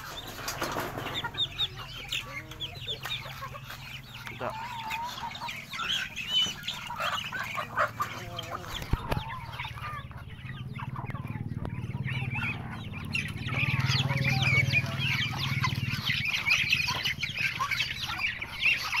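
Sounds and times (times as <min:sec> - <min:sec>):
chickens clucking: 0:00.0 - 0:19.0
chicks peeping: 0:00.0 - 0:19.0.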